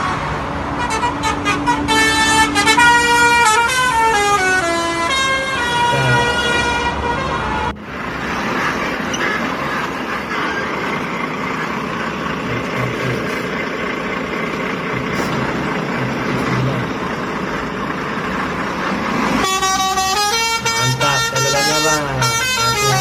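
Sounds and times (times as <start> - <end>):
lorry engine and road noise: 0.0 - 23.0.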